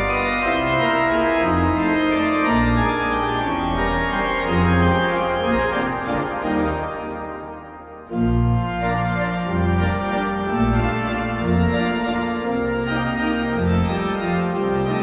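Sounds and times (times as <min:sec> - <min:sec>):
pipe organ playing a waltz: 0:00.0 - 0:15.0.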